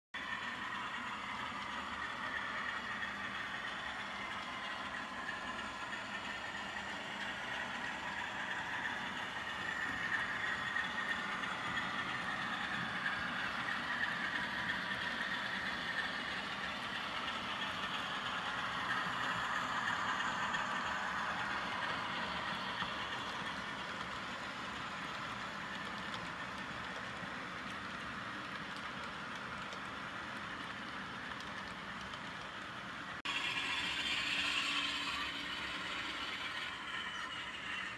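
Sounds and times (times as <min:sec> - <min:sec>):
model train running: 0:00.2 - 0:37.9.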